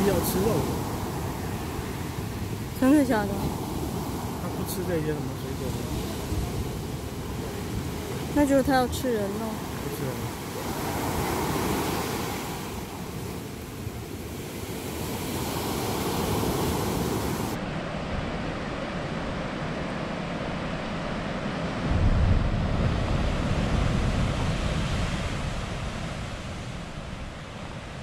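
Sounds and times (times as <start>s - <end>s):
ocean surf breaking on shore: 0.0s - 28.0s
wind blowing across microphone: 0.0s - 28.0s.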